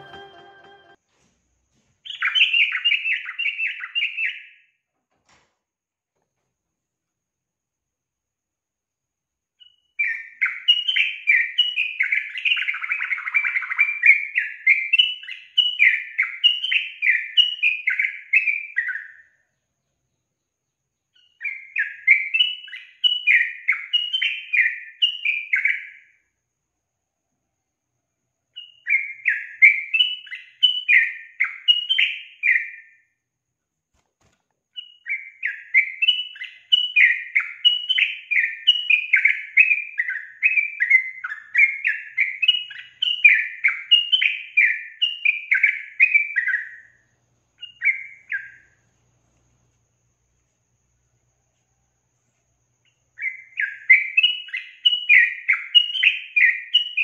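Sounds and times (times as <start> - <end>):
bird chirping song: 0.0 - 1.0, 2.0 - 4.8, 9.5 - 33.2, 34.2 - 57.0.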